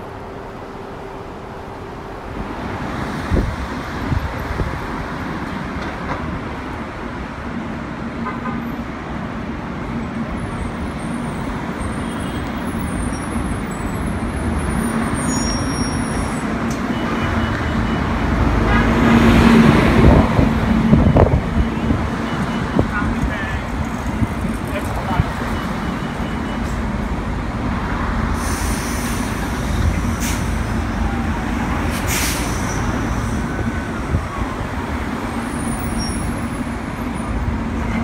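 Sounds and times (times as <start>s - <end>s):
bus engines running: 0.0s - 38.0s
bus passing by: 0.0s - 38.0s.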